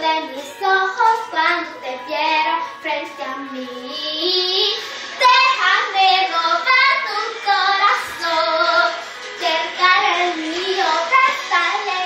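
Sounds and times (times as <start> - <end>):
girl singing pop ballad: 0.0 - 12.0.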